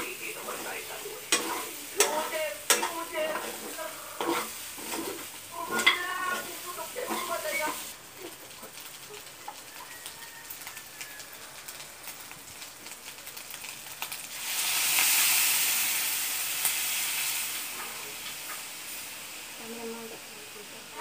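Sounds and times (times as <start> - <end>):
liquid hissing in hot pan: 0.0 - 21.0
meat sizzling in hot oil: 0.0 - 21.0.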